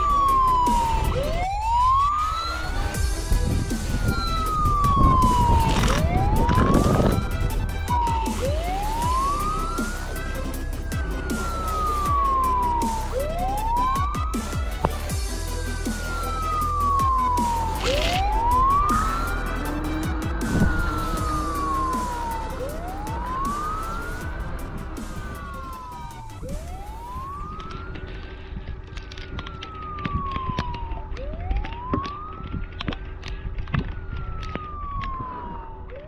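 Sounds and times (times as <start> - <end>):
toy siren wailing: 0.0 - 36.0.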